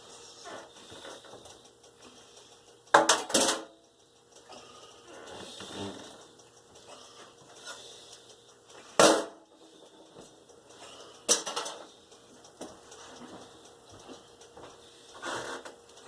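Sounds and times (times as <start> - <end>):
utensils clicking and knocking: 0.4 - 3.8, 4.4 - 14.3.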